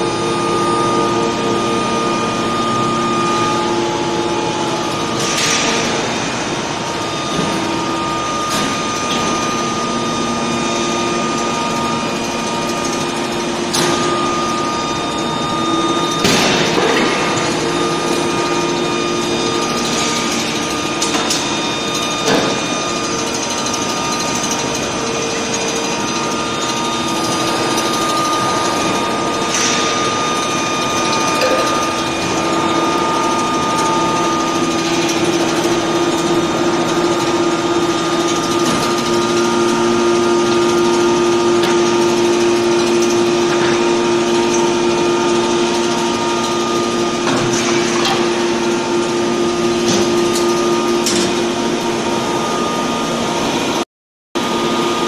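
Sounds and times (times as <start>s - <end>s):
induction heating line humming: 0.0s - 53.8s
machinery noise: 0.0s - 53.8s.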